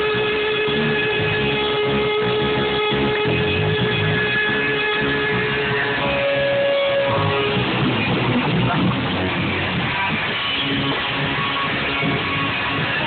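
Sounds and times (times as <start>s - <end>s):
held electric guitar tone: 0.0s - 13.0s
rock band playing loud: 0.0s - 13.0s.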